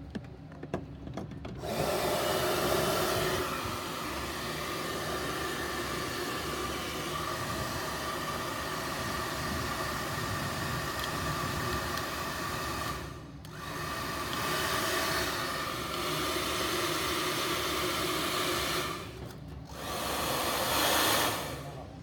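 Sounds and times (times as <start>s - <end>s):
hair dryer running: 1.6s - 22.0s.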